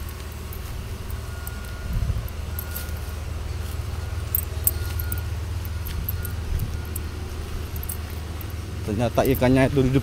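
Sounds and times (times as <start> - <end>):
footsteps on stony riverbank: 0.0 - 8.9
low rumble: 0.0 - 8.9
light clicks and clinks: 0.0 - 10.0.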